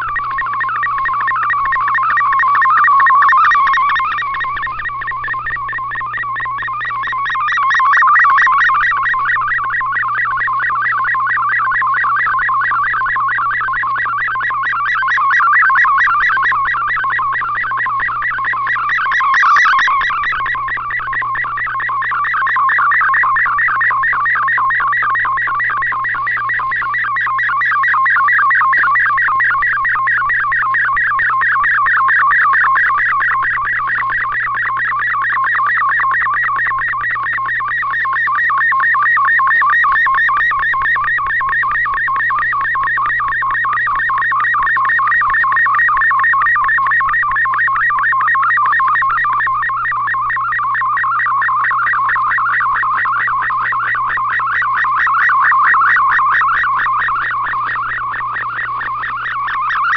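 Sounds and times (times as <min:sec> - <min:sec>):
warbling digital data tone: 0:00.0 - 0:59.9.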